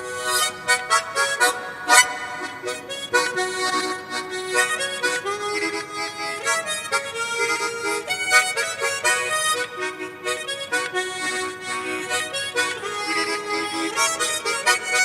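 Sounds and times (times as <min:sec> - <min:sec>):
harmonica playing a tune: 0:00.0 - 0:15.0.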